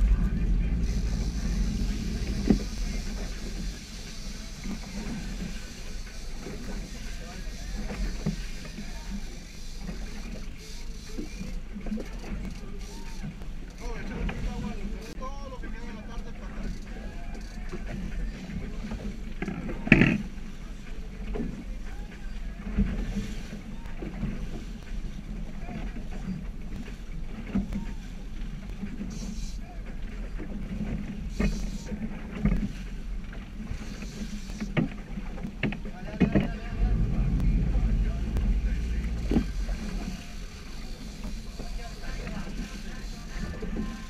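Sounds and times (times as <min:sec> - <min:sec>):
boat engine rumble: 0:00.0 - 0:44.0
water against hull: 0:00.0 - 0:44.0
wind: 0:00.0 - 0:44.0.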